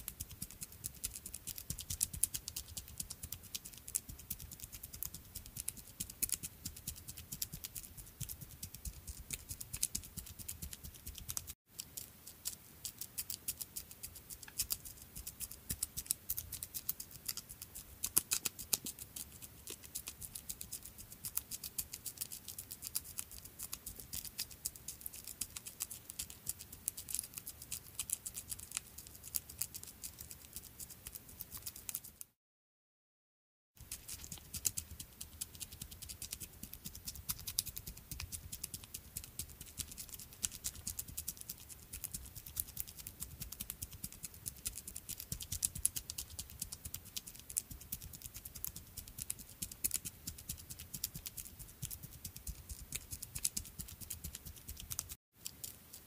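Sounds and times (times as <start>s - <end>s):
small creature's pattering footsteps: 0.0s - 32.3s, 33.8s - 56.0s.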